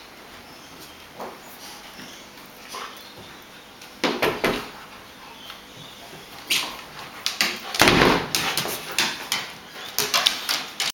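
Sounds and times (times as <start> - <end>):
dogs scuffling: 0.6 - 10.9
paws scrabbling on wooden floor: 0.8 - 10.9.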